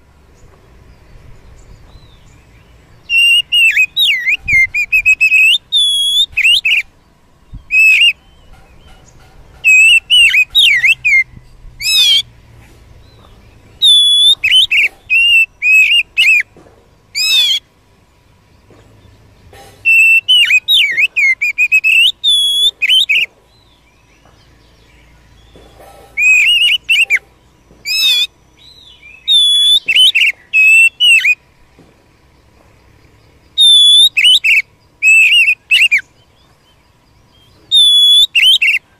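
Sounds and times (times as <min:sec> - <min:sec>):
bird singing whistled notes: 0:00.4 - 0:12.3, 0:13.0 - 0:17.7, 0:19.8 - 0:31.6, 0:32.4 - 0:38.9.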